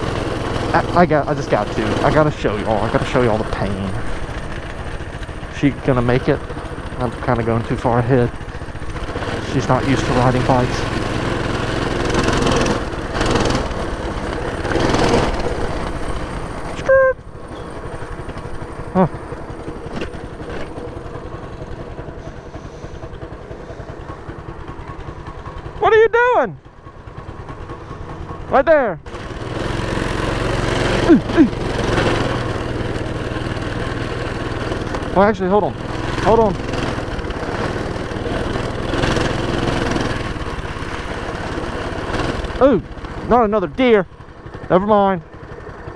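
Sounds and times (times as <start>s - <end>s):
small engine minibike running: 0.0s - 45.9s.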